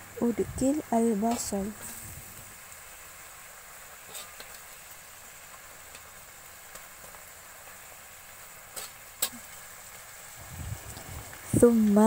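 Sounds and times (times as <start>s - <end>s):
onions sizzling in a pan: 0.0s - 12.0s
sauce bubbling: 0.0s - 12.0s.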